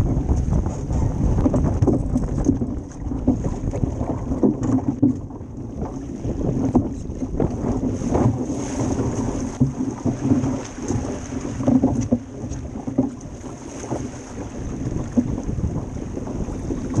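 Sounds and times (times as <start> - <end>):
hull thumping on waves: 0.0 - 17.0
water rushing along hull: 0.0 - 17.0
wind buffeting microphone: 0.0 - 17.0.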